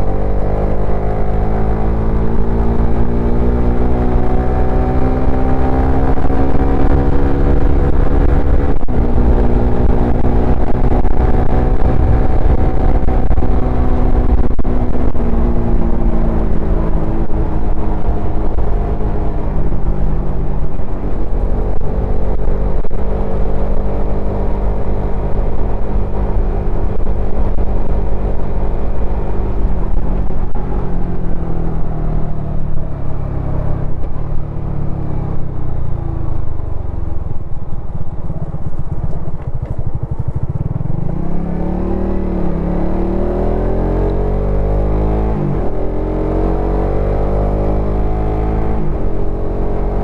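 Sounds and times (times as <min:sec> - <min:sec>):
motorcycle engine riding: 0:00.0 - 0:50.0.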